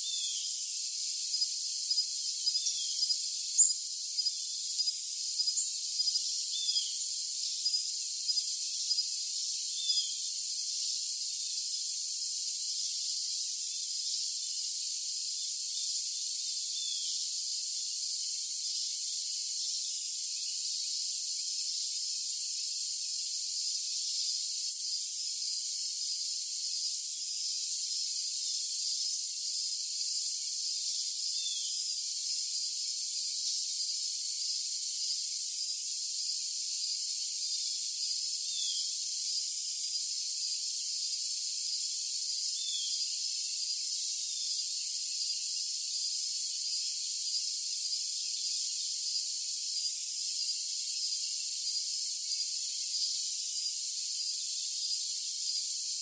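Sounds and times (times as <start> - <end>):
crickets chirping: 0.0 - 56.0
high hiss: 0.0 - 56.0.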